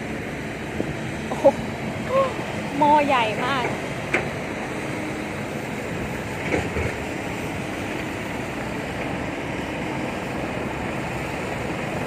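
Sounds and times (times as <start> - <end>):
diesel dump truck rumbling: 0.0 - 12.0.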